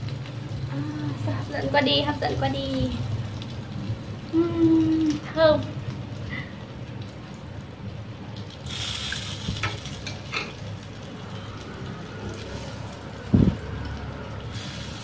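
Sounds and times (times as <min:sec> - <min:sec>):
sausages sizzling in oil: 0:00.0 - 0:15.0.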